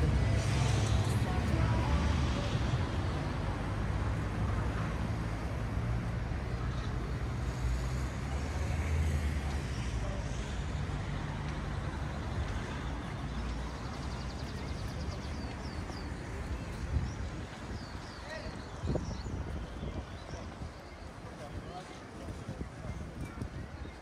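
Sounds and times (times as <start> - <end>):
low rumble of cars: 0.0 - 24.0.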